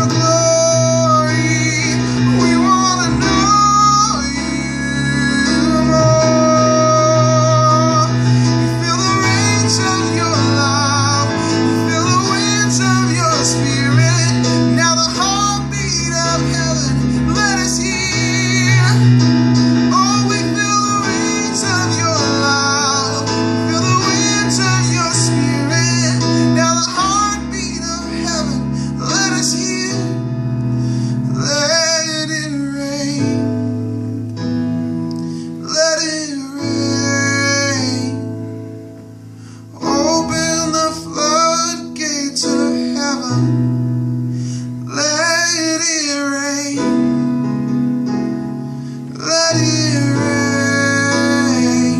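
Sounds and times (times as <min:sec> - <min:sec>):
man singing with vibrato: 0:00.0 - 0:34.6, 0:35.3 - 0:38.6, 0:39.5 - 0:43.8, 0:44.7 - 0:47.6, 0:48.8 - 0:51.9
electronic keyboard sustained chords: 0:00.0 - 0:51.9.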